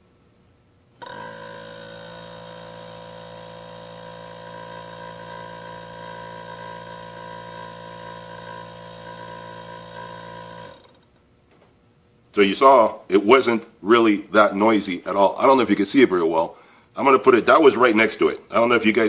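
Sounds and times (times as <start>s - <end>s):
refrigerator compressor humming: 0.0s - 19.0s.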